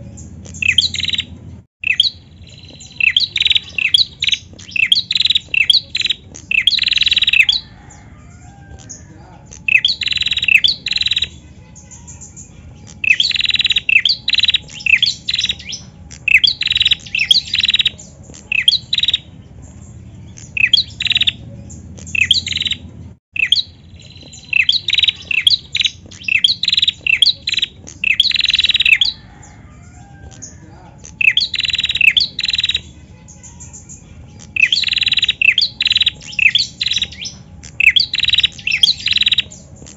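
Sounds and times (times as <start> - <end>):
bird sharp high chirps: 0.0 - 39.9.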